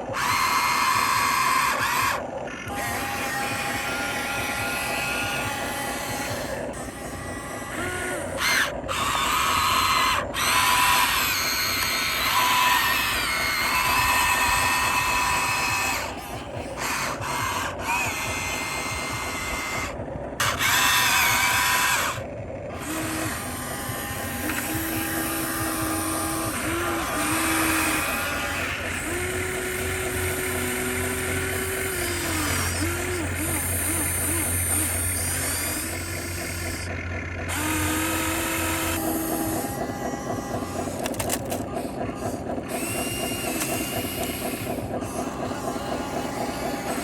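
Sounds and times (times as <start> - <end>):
small electric motors whining: 0.0 - 47.0.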